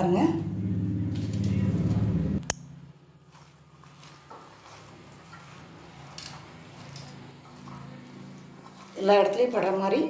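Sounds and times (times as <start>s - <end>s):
wet squishing of mixing: 0.0s - 10.0s.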